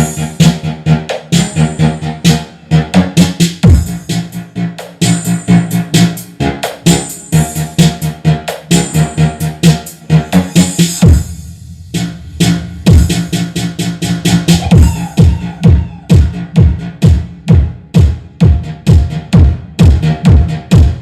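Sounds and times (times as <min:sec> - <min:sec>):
deep bass sweeps: 0:00.0 - 0:21.0
electronic dance music: 0:00.0 - 0:21.0.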